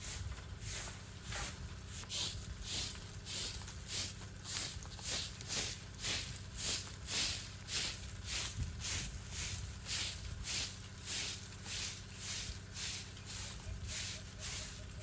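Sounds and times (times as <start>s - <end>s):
crunching footsteps: 0.0s - 15.0s.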